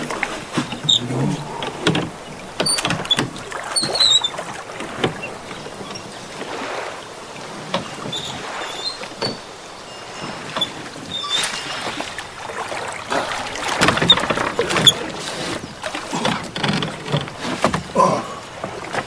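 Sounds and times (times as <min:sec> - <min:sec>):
oars knocking against wooden boat: 0:00.0 - 0:06.6, 0:10.1 - 0:19.0
water sloshing: 0:00.0 - 0:19.0.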